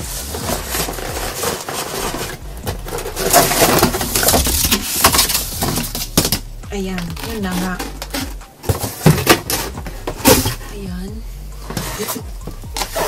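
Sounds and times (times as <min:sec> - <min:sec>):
cardboard scraping and flapping: 0:00.0 - 0:06.4, 0:07.0 - 0:10.6, 0:11.6 - 0:13.0
plastic wrapping rustling: 0:00.0 - 0:10.7.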